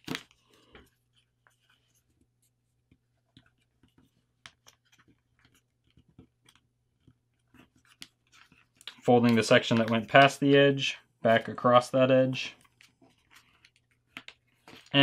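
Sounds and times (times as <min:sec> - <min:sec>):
paper crinkling and creasing: 0:00.0 - 0:15.0.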